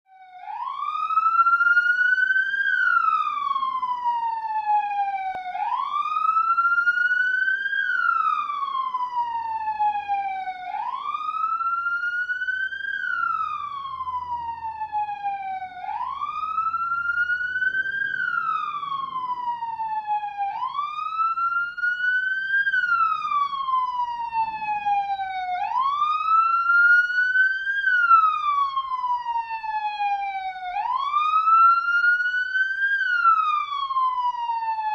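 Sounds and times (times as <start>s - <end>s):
police siren wailing: 0.1s - 34.9s.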